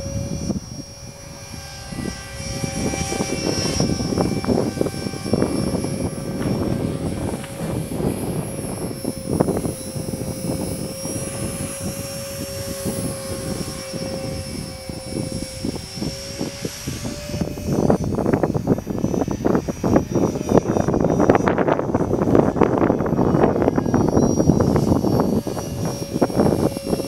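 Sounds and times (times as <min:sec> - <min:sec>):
model helicopter motor whine: 0:00.0 - 0:27.0
wind buffeting microphone: 0:00.0 - 0:27.0.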